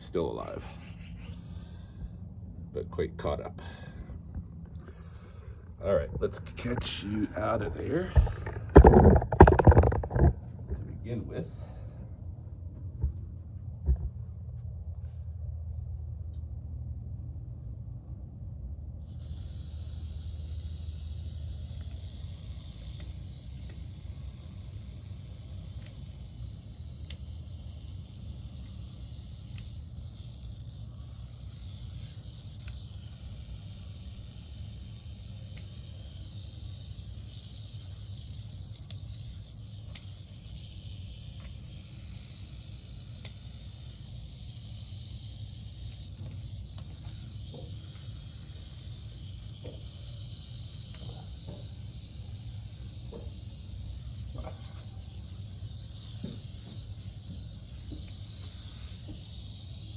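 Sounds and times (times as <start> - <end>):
rattlesnake rattling: 0.0 - 2.2, 3.2 - 12.0, 18.8 - 59.9.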